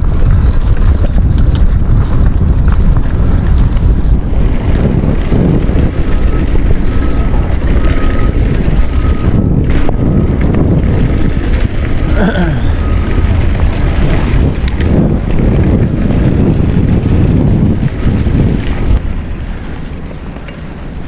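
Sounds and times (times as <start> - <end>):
bike rattling over ground: 0.0 - 21.0
wind buffeting microphone: 0.0 - 21.0.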